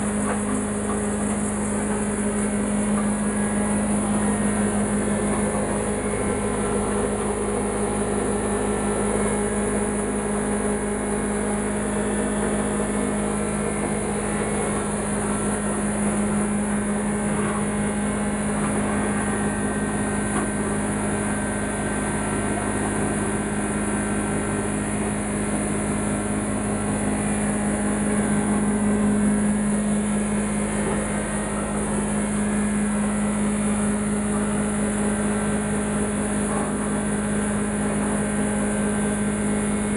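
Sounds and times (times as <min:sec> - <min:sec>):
wood shredder machine hum: 0:00.0 - 0:39.9.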